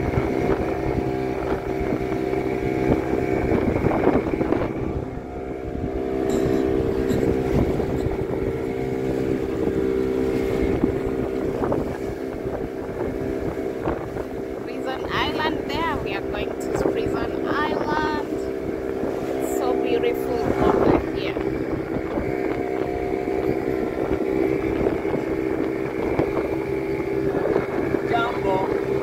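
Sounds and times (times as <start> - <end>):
boat motor humming: 0.0 - 29.0
wind noise: 0.0 - 29.0.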